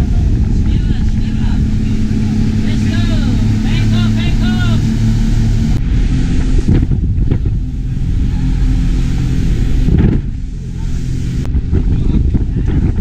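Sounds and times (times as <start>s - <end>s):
rushing water: 0.0s - 11.9s
speedboat engines droning: 0.0s - 13.0s
wind: 0.0s - 13.0s.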